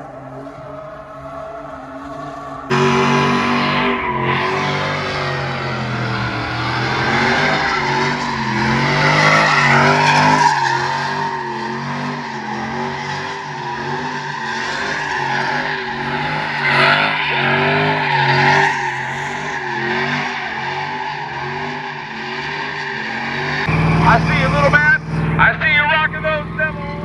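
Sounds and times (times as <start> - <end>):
tyres squealing on concrete: 0.2 - 25.7
engine revving: 2.6 - 27.0.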